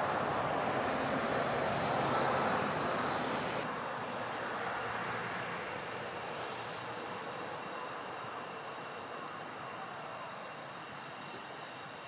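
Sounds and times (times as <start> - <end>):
distant traffic rushing: 0.0 - 12.0.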